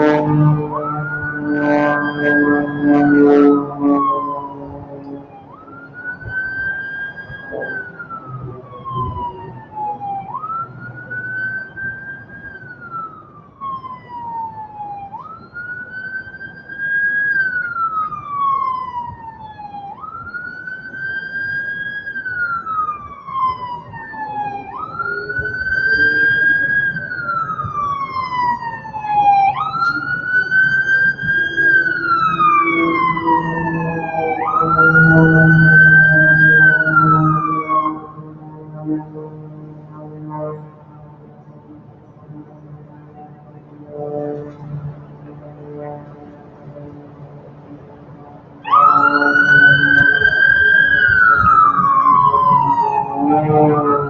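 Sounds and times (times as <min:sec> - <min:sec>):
emergency siren wailing: 0:00.0 - 0:54.0.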